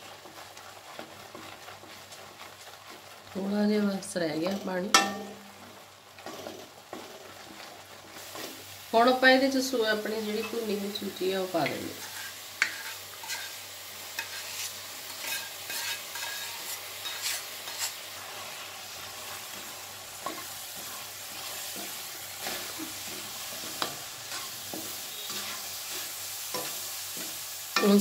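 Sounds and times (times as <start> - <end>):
steady sizzle: 0.0 - 28.0
wooden spatula scraping steel pan: 0.1 - 8.7, 10.0 - 28.0.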